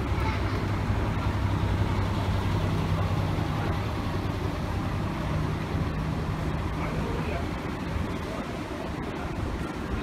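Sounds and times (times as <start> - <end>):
background traffic noise: 0.0 - 10.0
bus engine hum passing: 0.0 - 10.0.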